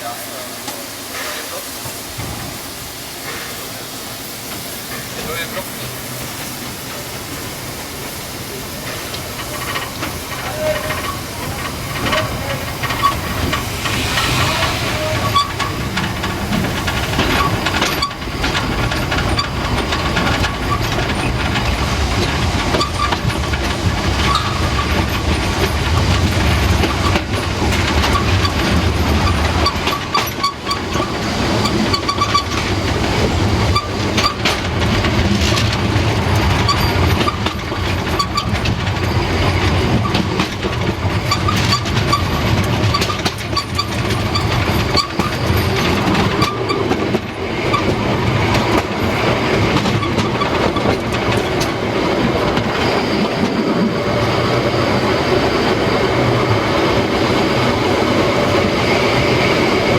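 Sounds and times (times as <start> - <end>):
steam hissing from locomotive: 0.0 - 59.9
train wheels clattering on rails: 0.0 - 59.9.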